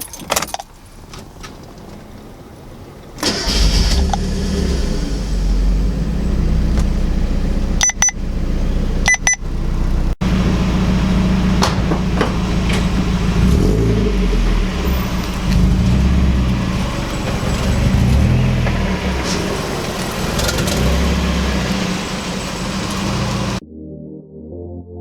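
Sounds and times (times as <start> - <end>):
car engine running: 3.2 - 23.6.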